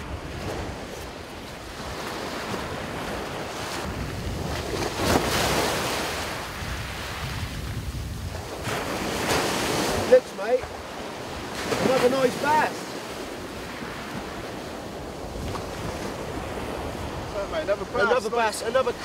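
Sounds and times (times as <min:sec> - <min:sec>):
wind on microphone: 0:00.0 - 0:18.0
waves breaking on beach: 0:00.0 - 0:19.0.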